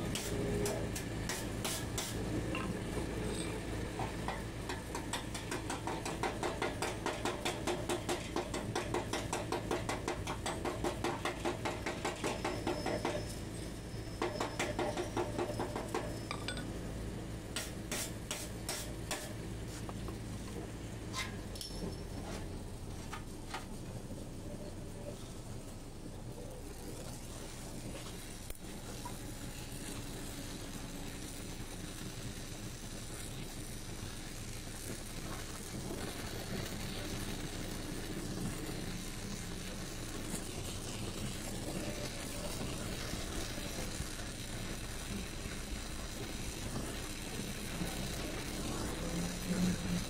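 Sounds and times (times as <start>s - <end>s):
welding torch flame hissing: 0.0s - 50.0s.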